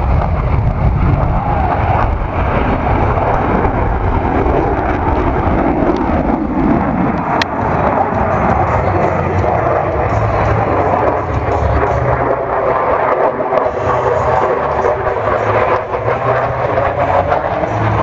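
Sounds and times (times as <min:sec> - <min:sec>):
jet flying overhead: 0:00.0 - 0:18.0.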